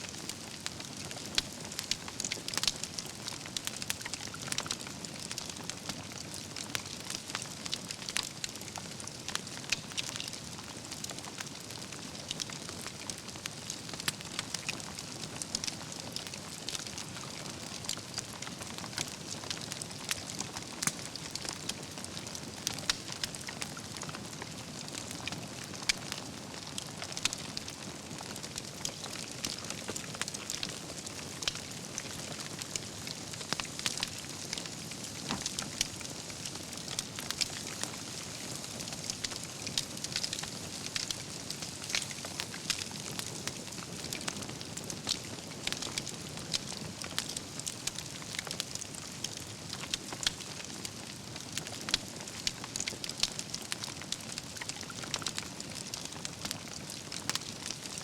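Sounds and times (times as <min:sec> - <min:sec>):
logs crackling and popping: 0:00.0 - 0:58.0.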